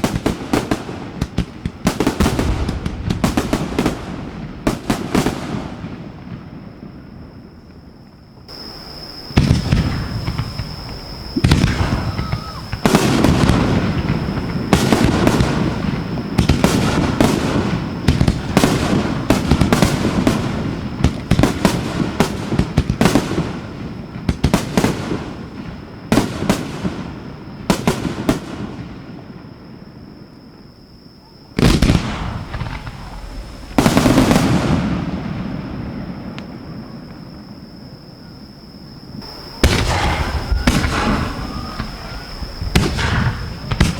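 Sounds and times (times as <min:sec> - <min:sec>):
firework crackles: 0:00.0 - 0:29.8, 0:31.6 - 0:37.6, 0:39.1 - 0:43.9
firework booms: 0:00.0 - 0:43.9.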